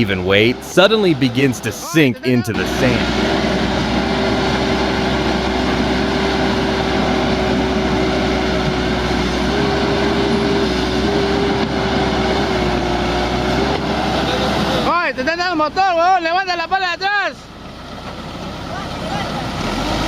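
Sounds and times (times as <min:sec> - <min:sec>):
excavator engine whining: 0:00.0 - 0:20.0.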